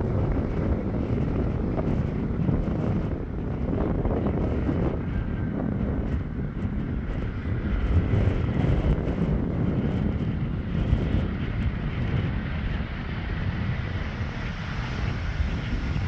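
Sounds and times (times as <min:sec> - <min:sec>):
distant jet engine rumble: 0:00.0 - 0:16.0
wind buffeting microphone: 0:00.0 - 0:16.0.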